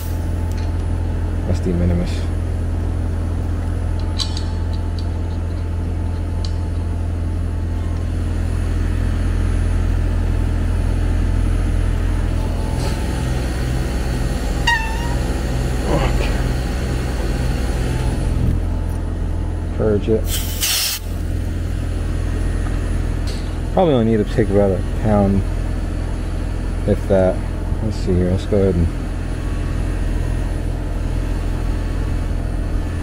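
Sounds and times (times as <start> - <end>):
air conditioner unit humming: 0.0 - 33.0.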